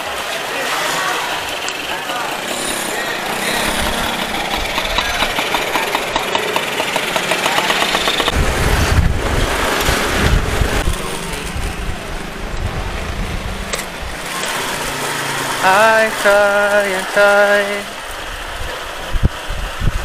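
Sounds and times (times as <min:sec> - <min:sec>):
scooter engine running: 0:00.0 - 0:20.0
heavy low rumble: 0:01.2 - 0:20.0.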